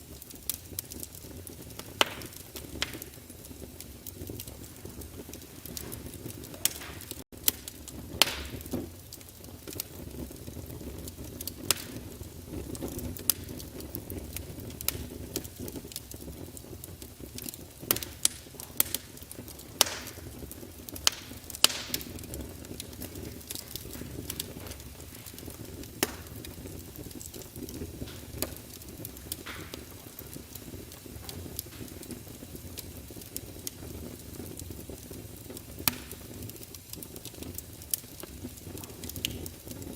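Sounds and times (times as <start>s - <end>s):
fire pops: 0.0s - 39.9s
fireplace fire crackling: 0.0s - 39.9s.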